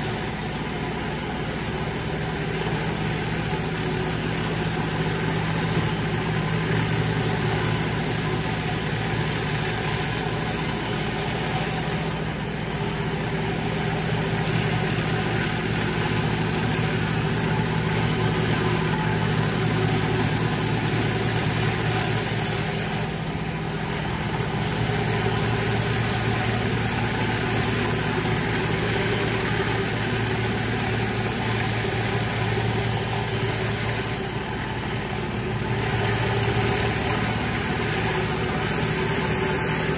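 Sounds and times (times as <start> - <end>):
high-pressure water hissing: 0.0 - 39.9
pressure washer engine running: 0.0 - 39.9.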